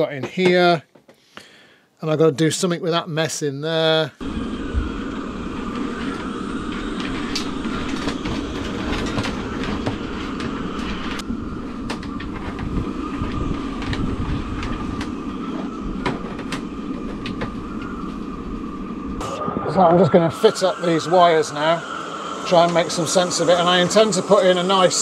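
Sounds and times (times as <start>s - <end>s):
thin whine: 3.6s - 25.0s
steady low hum: 3.8s - 25.0s.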